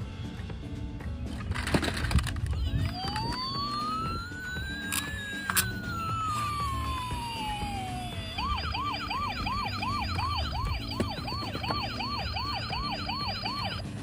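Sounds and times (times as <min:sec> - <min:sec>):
electronic toy siren: 0:02.4 - 0:14.0.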